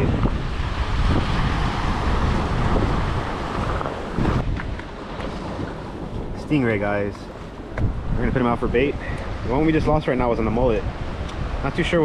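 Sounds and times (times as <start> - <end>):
ocean surf washing in: 0.0 - 12.0
wind buffeting microphone: 0.0 - 12.0.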